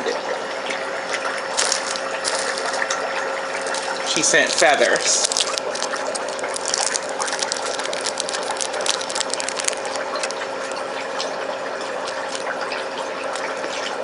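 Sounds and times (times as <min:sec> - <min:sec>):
faint steady hum: 0:00.0 - 0:14.0
plastic packets crinkling: 0:01.5 - 0:13.6.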